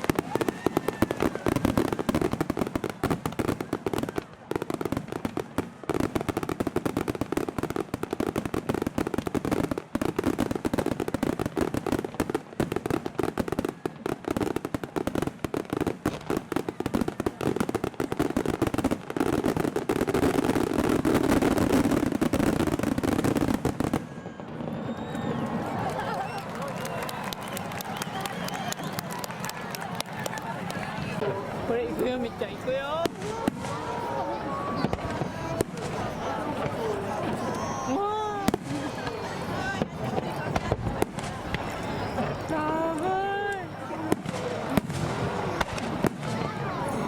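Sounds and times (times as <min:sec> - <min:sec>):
fireworks crackling: 0:00.0 - 0:47.0.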